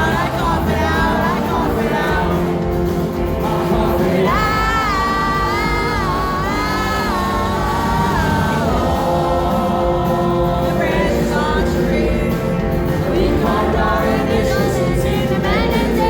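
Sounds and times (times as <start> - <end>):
crowd singing along: 0.0 - 16.0
live rock band: 0.0 - 16.0
man singing: 0.0 - 16.0.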